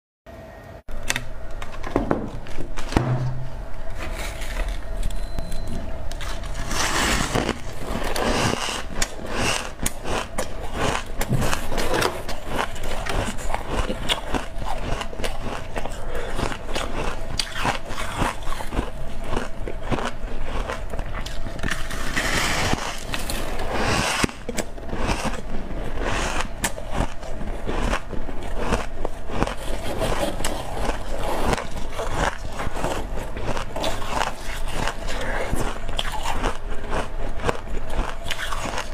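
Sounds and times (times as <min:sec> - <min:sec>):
frost crunching and crackling: 0:06.1 - 0:38.9.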